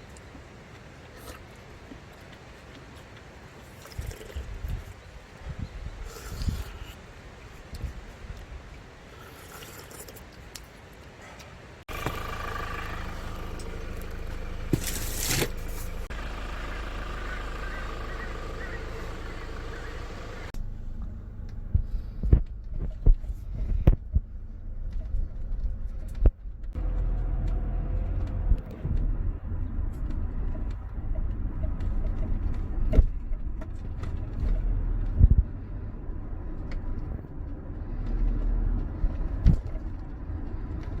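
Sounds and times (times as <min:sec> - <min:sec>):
vehicle rumbling: 0:00.0 - 0:41.0.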